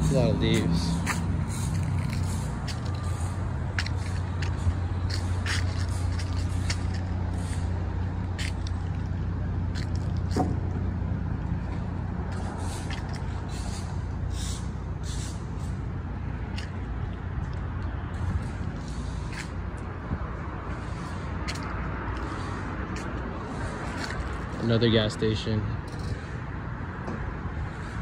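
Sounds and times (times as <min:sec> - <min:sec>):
traffic rumble: 0:00.0 - 0:28.0
light clicks and scuffs: 0:00.4 - 0:10.8, 0:11.4 - 0:15.4, 0:16.4 - 0:24.9.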